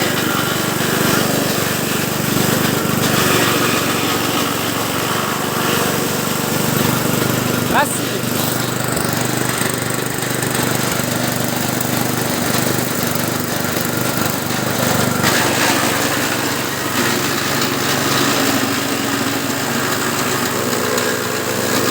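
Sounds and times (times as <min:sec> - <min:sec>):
chopper engine running: 0:00.0 - 0:21.9.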